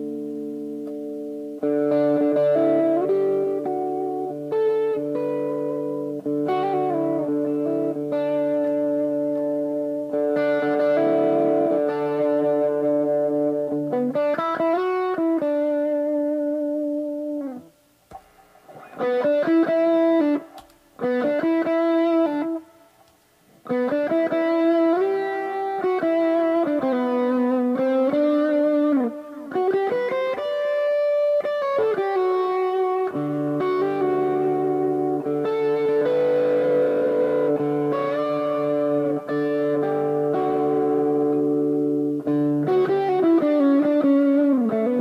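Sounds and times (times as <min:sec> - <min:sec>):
electric guitar melody: 0:00.0 - 0:45.0.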